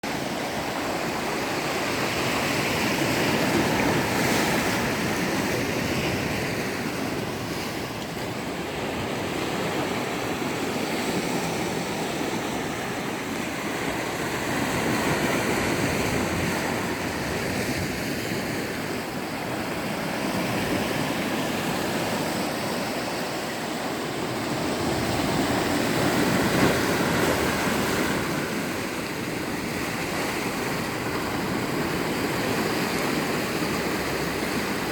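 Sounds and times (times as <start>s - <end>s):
sea waves washing onto shore: 0.0s - 34.9s.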